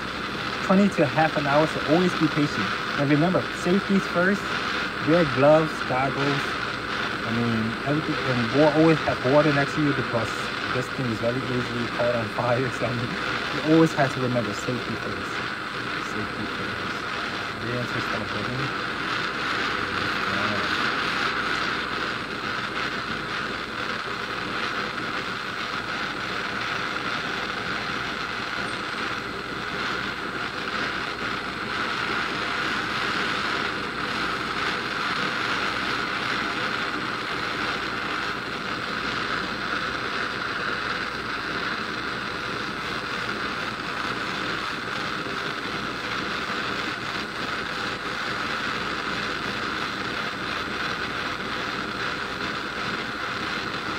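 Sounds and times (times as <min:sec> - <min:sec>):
gas torch hissing: 0:00.0 - 0:53.9.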